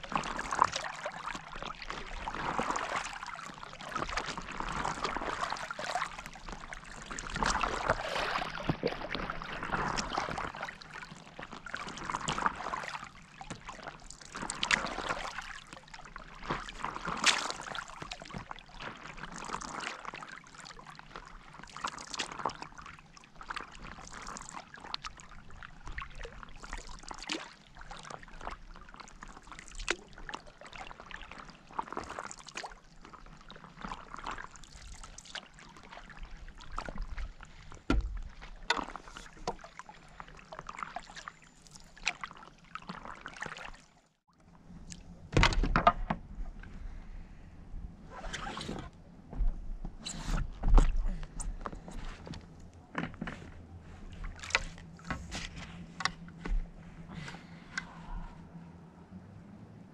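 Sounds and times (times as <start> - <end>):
paddle strokes splashing water: 0.0 - 45.5, 53.3 - 58.4.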